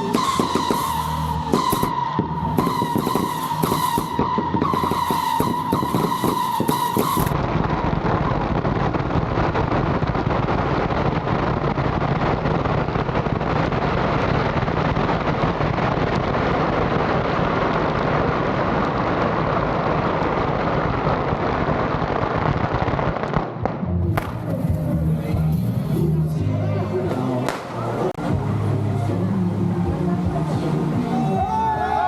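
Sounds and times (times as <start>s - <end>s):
fireworks crackling and banging: 0.0s - 28.7s.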